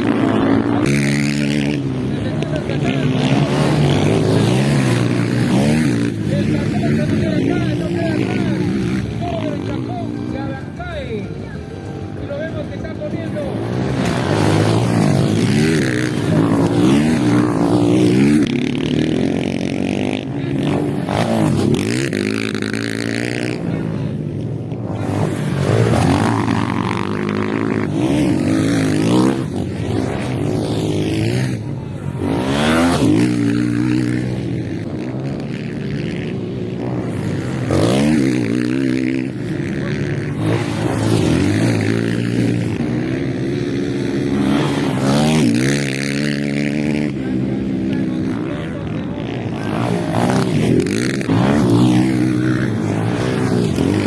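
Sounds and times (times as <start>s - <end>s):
motocross motorcycles revving: 0.0s - 54.0s.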